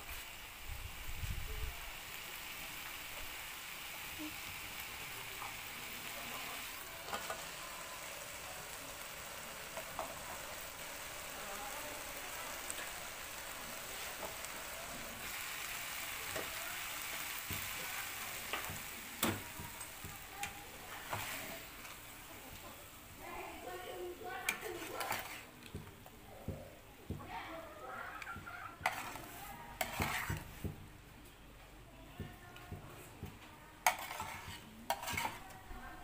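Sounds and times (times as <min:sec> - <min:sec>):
fish sizzling in a frying pan: 0:00.0 - 0:30.8, 0:33.8 - 0:36.0.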